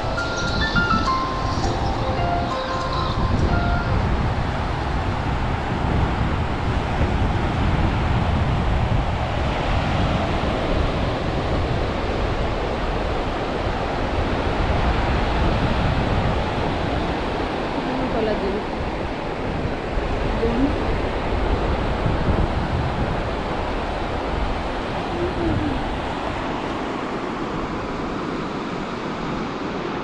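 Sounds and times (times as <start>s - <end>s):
ocean surf washing on beach: 0.0s - 30.0s
wind buffeting microphone: 0.0s - 30.0s.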